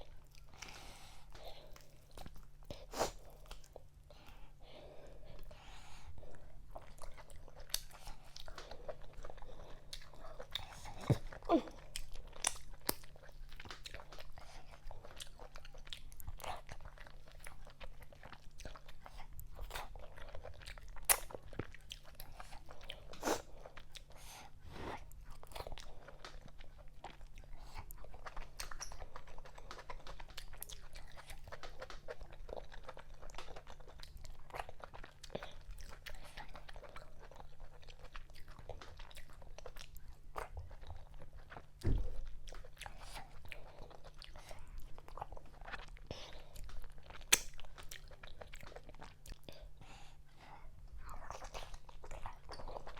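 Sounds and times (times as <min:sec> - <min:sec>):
faint low hum: 0:00.0 - 0:52.9
person chewing food: 0:00.0 - 0:52.9.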